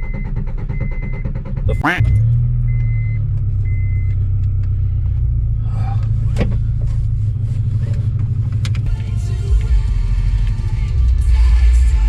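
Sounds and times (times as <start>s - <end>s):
car engine running: 0.0s - 12.0s
road rumble: 0.0s - 12.0s.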